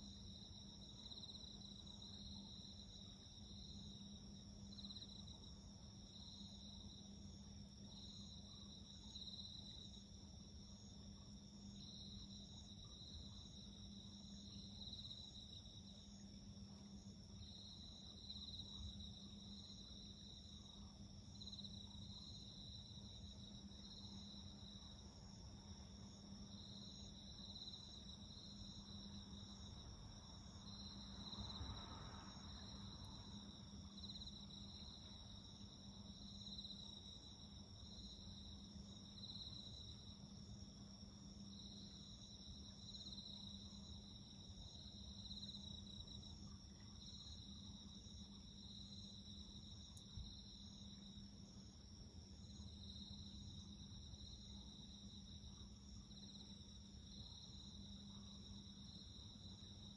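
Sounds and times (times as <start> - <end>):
crickets chirping in pulses: 0.0 - 59.9
steady high insect trill: 0.0 - 59.9.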